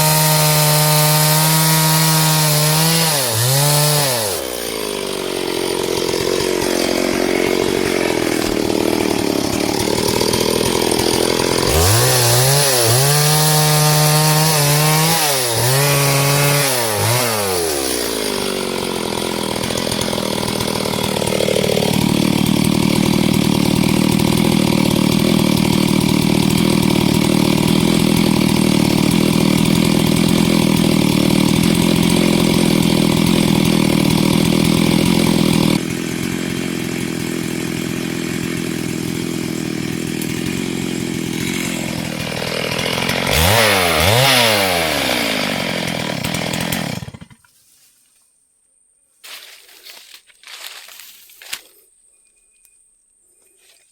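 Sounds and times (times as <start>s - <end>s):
chainsaw cutting wood: 0.0s - 47.6s, 49.3s - 51.8s.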